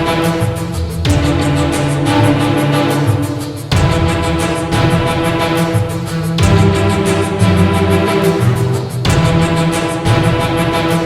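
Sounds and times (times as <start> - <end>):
dramatic soundtrack music: 0.0 - 11.0.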